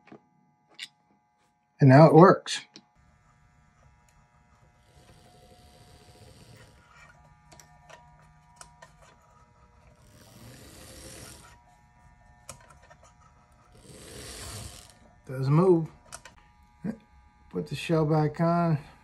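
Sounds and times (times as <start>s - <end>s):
small electric motor whirring: 3.0s - 19.0s.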